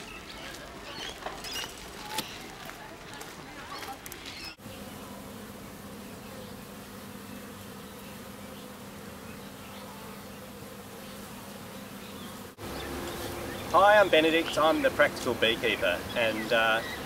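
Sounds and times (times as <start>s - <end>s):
honey bees humming: 0.0s - 17.0s.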